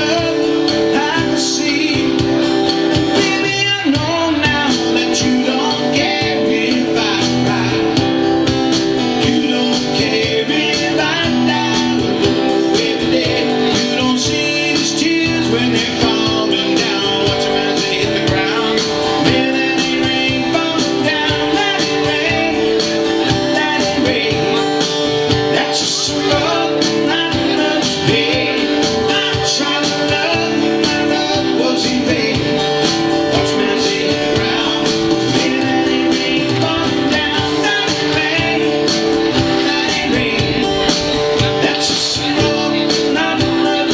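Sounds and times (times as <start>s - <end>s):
acoustic guitar strumming: 0.0s - 43.9s
man singing into a microphone: 0.0s - 43.9s.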